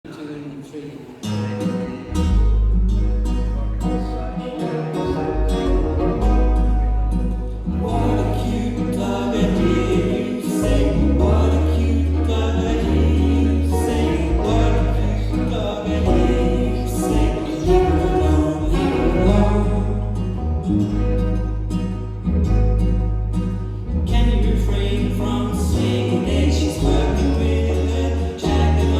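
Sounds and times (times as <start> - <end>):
singing voices: 0.0 - 21.4, 23.9 - 28.9
acoustic band playing: 1.0 - 28.9
plucked banjo: 1.5 - 28.9.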